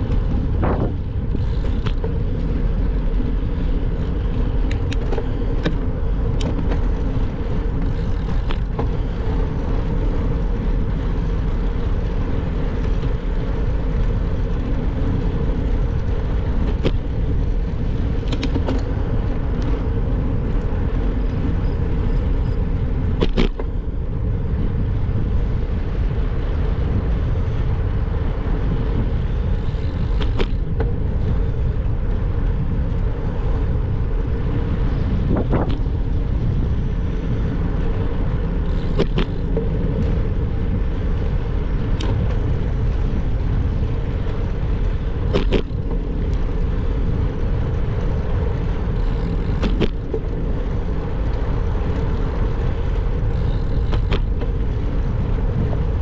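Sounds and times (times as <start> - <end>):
bicycle clicks and knocks: 0.0 - 26.5, 27.6 - 56.0
wind and road rumble: 0.0 - 56.0.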